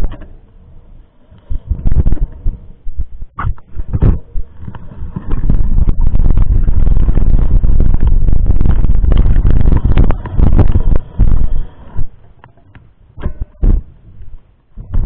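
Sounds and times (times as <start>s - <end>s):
bike rumbling over rough trail: 0.0s - 15.0s.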